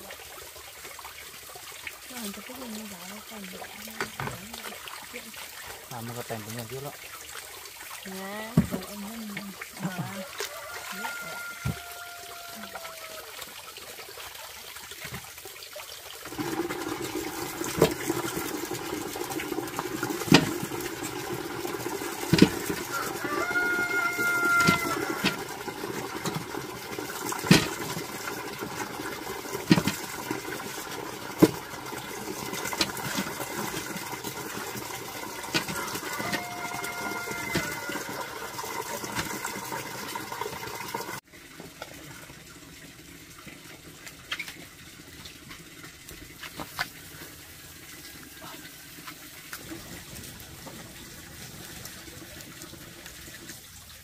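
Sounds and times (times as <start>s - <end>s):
water running: 0.0s - 54.0s.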